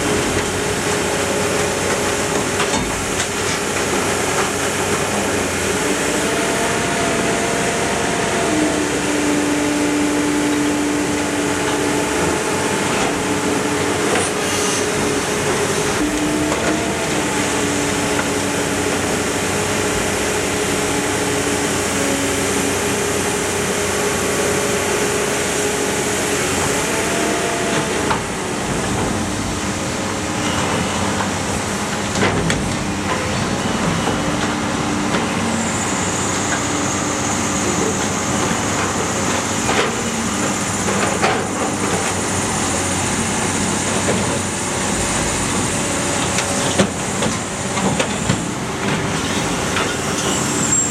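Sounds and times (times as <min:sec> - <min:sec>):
baler machine drone: 0:00.0 - 0:50.9
hydraulic whine: 0:00.0 - 0:50.9.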